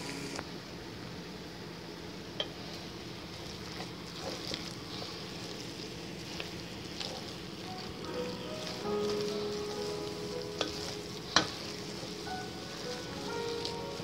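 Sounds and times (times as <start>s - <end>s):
rice sizzling in pot: 2.3s - 14.0s
wooden spoon stirring: 2.4s - 14.0s.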